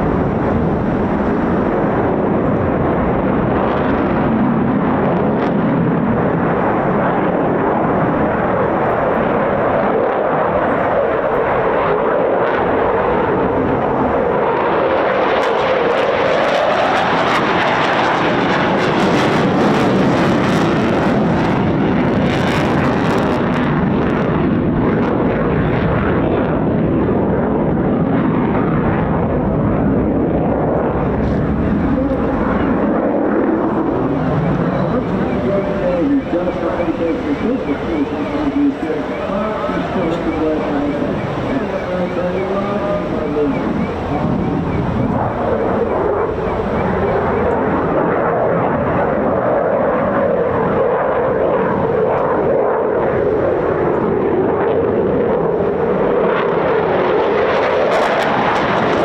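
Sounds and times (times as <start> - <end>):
fighter jet engines roaring: 0.0 - 59.0.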